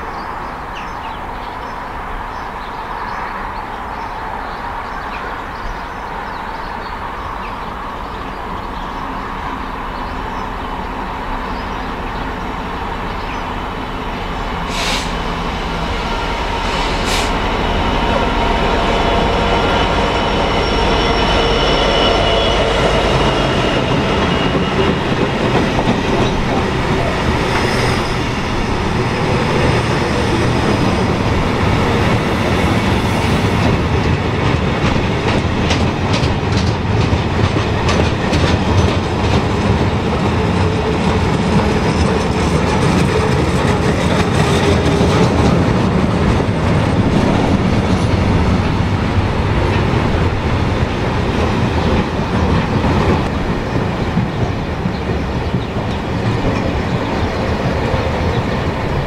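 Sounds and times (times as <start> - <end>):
diesel locomotive engine: 0.0 - 59.0.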